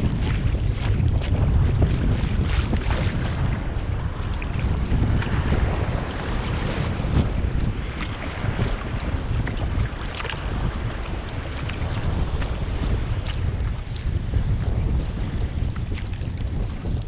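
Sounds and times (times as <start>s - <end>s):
sea water splashing and lapping: 0.0s - 17.0s
wind buffeting microphone: 0.0s - 17.0s.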